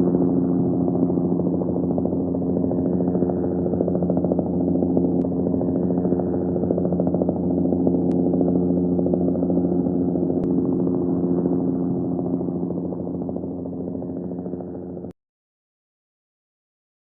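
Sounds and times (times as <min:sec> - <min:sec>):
helicopter rotor blades chopping: 0:00.0 - 0:15.1
helicopter engine drone: 0:00.0 - 0:15.2.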